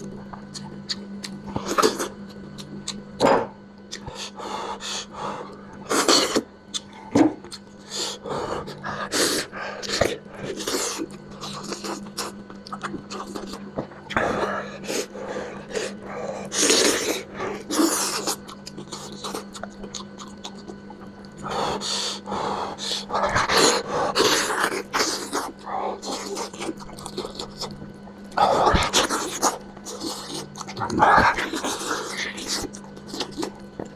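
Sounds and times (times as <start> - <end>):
person chewing and sucking meat: 0.0 - 3.1, 3.8 - 33.9
steady low hum: 0.0 - 33.9.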